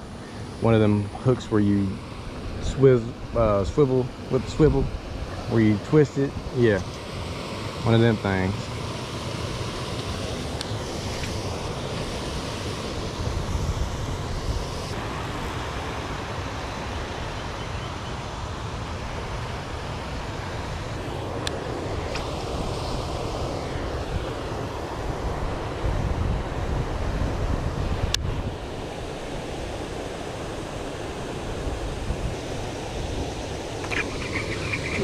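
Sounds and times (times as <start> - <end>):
water rushing: 0.0 - 35.0
wind rumbling on microphone: 0.0 - 35.0.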